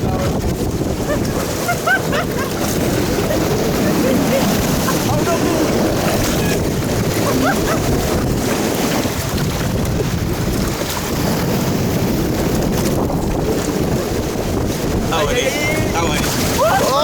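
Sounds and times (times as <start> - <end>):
water rushing and splashing: 0.0 - 17.0
wind buffeting microphone: 0.0 - 17.0.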